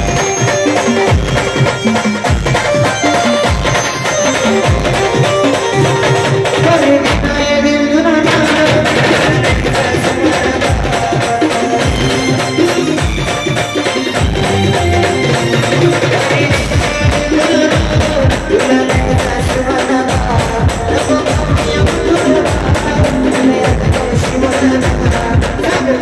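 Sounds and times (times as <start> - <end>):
loud folk band music: 0.0 - 26.0
pounding drum beat: 0.0 - 26.0.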